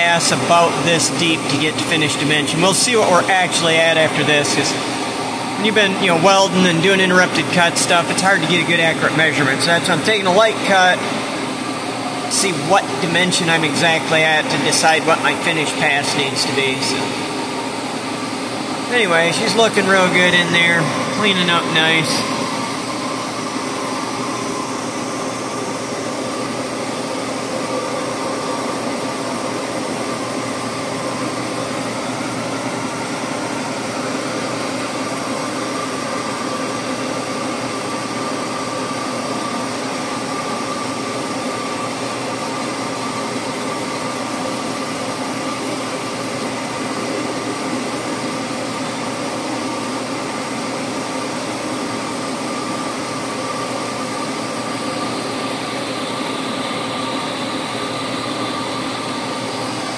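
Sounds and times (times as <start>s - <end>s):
boring mill running with whine: 0.0s - 59.9s.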